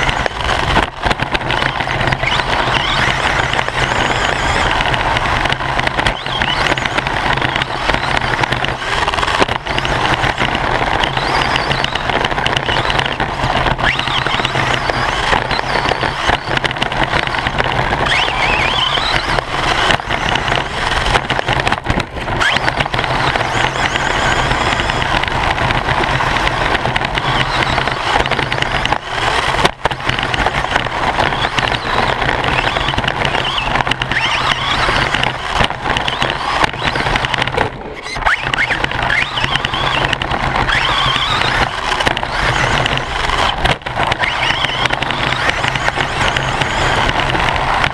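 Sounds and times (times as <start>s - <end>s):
electric motor whine: 0.0s - 47.9s.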